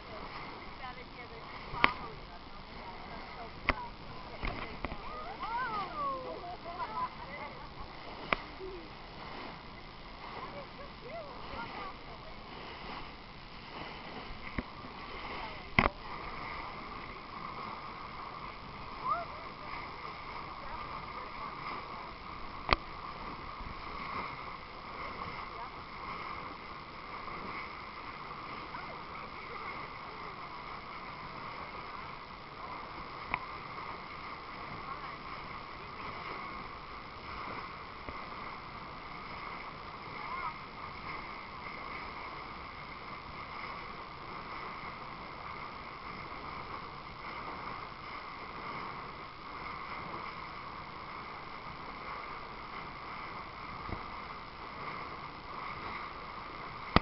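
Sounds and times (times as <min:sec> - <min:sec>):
boat motor: 0:00.0 - 0:57.0
water sounds: 0:00.0 - 0:57.0.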